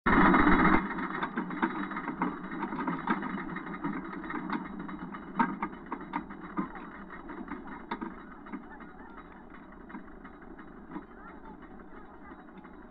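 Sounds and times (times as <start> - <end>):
roller coaster rattling rumble: 0.1 - 12.9
track clicks and clanks: 0.1 - 12.9.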